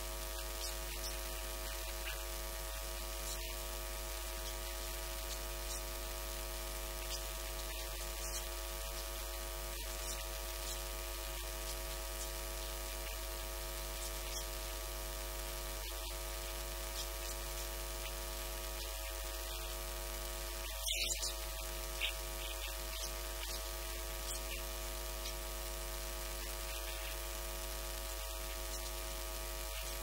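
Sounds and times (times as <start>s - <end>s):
electrical mains hum and hiss: 0.0s - 30.0s.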